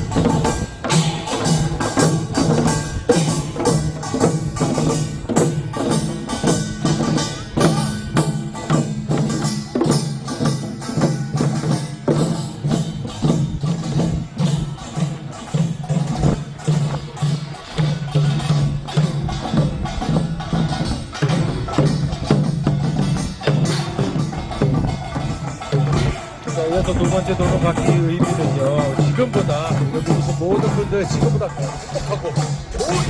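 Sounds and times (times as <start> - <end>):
drums beating fast rhythm: 0.0 - 33.0
metal gongs struck: 0.0 - 33.0.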